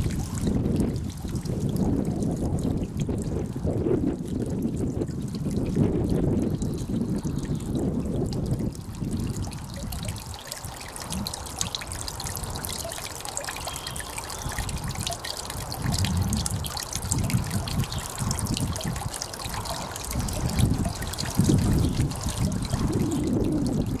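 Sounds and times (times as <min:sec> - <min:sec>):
wind buffeting microphone: 0:00.0 - 0:12.9, 0:14.3 - 0:24.0
water trickling and splashing: 0:00.0 - 0:24.0.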